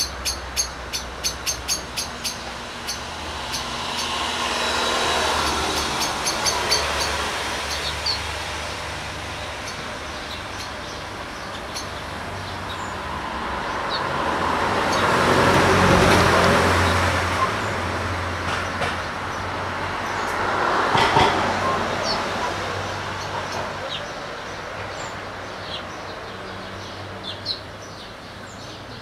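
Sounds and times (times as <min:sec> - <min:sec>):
vehicle passing by: 0:00.0 - 0:28.7
street traffic: 0:00.0 - 0:29.0.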